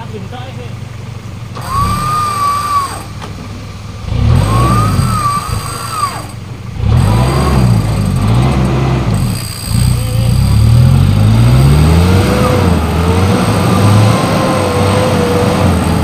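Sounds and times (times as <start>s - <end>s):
car engine revving: 0.0s - 16.0s
high whine: 1.5s - 16.0s.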